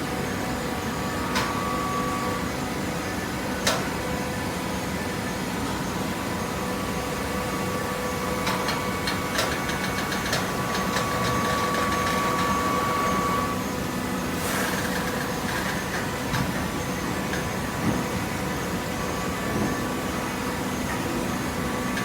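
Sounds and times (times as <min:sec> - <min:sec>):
motor and pump hum: 0:00.0 - 0:22.0
machine whine: 0:04.4 - 0:22.0.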